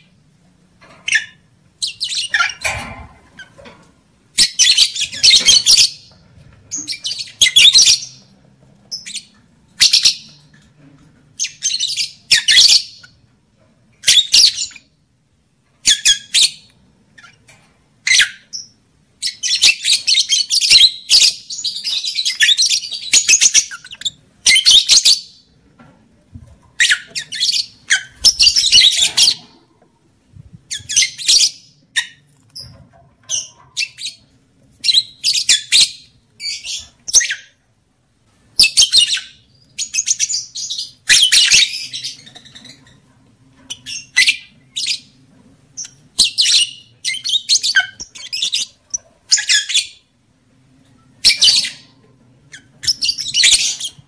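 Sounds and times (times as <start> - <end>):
lovebirds chattering: 0.8 - 3.7, 4.4 - 13.3, 15.8 - 29.8, 30.6 - 37.6, 38.6 - 50.1, 51.1 - 54.0.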